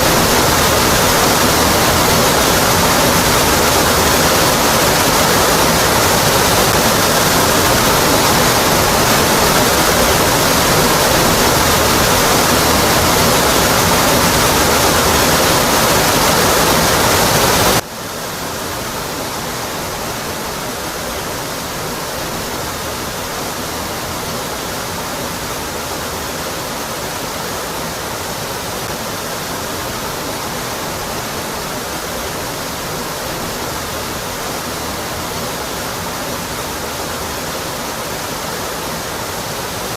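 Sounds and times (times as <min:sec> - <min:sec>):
waterfall rushing onto rock: 0:00.0 - 0:39.9.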